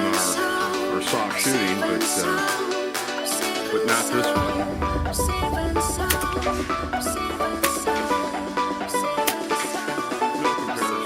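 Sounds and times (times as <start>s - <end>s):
pop music with drums: 0.0s - 11.0s.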